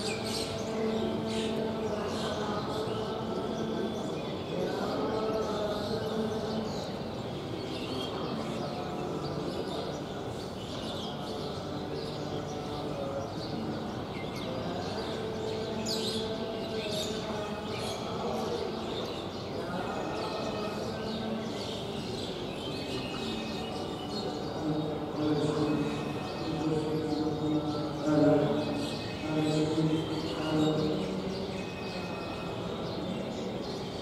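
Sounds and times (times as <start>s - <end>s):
soft low background murmur: 0.0s - 34.0s.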